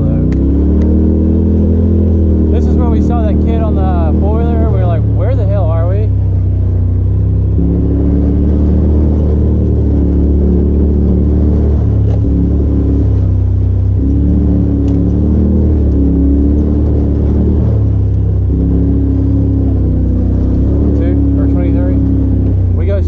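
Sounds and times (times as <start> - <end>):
vehicle engine drone: 0.0 - 23.0.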